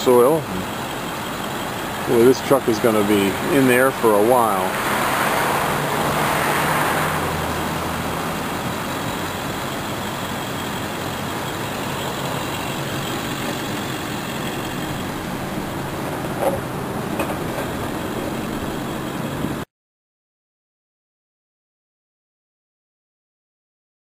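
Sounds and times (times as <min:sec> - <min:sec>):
motor vehicle engine: 0:00.0 - 0:19.6.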